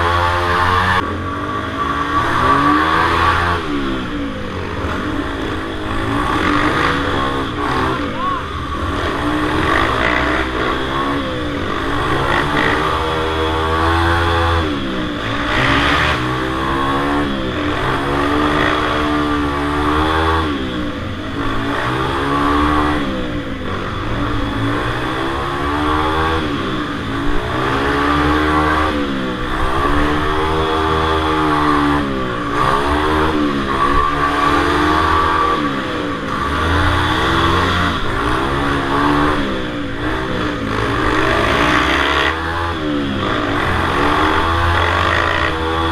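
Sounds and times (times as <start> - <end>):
minibike engines racing: 0.0 - 45.9.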